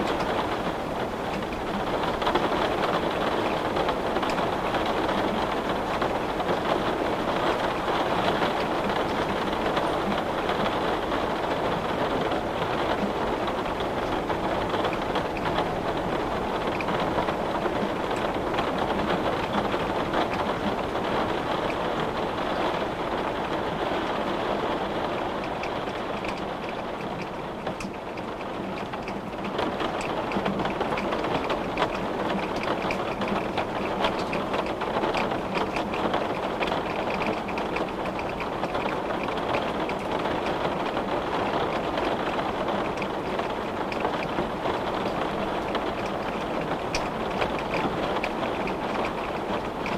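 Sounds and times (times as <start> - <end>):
rain on a window: 0.0 - 49.9.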